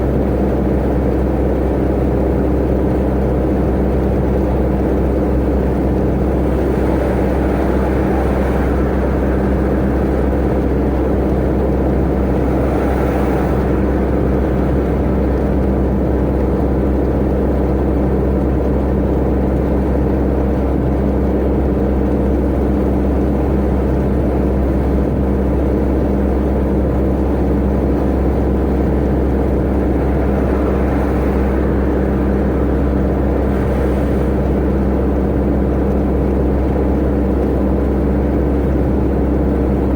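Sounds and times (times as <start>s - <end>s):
road and wind noise: 0.0s - 39.9s
truck engine droning: 0.0s - 39.9s.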